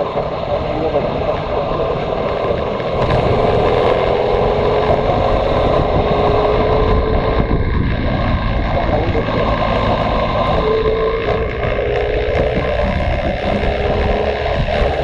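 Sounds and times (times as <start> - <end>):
motorcycle engine accelerating: 0.0 - 15.0
rush of noise: 0.0 - 15.0.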